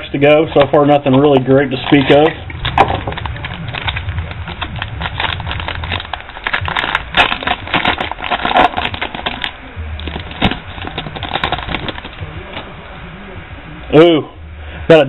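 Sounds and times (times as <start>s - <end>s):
foil wrapper crinkling and tearing: 0.0s - 12.7s.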